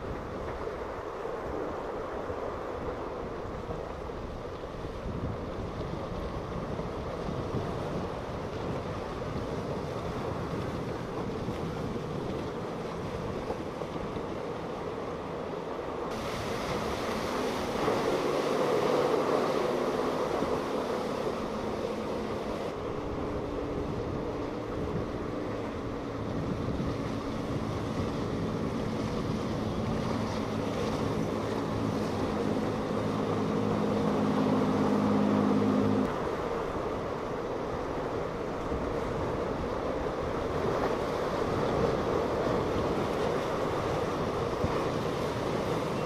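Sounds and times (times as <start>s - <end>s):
boat engine droning: 0.0s - 46.0s
wake and waves breaking: 0.0s - 46.0s.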